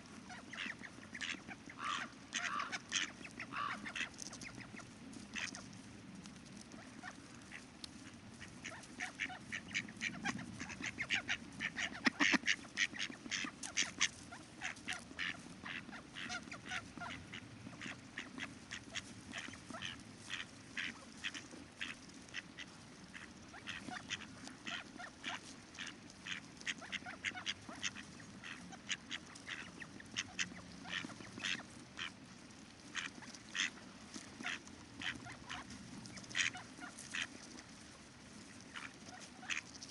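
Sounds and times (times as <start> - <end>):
ducks calling: 0.1 - 5.7, 6.7 - 32.2, 32.8 - 37.9, 38.5 - 39.8.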